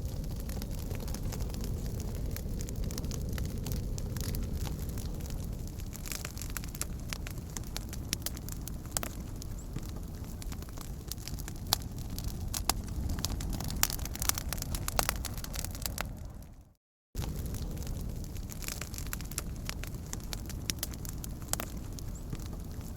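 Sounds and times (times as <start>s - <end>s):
burning wood crackling and popping: 0.0s - 22.9s
low rumble of flames: 0.0s - 22.9s.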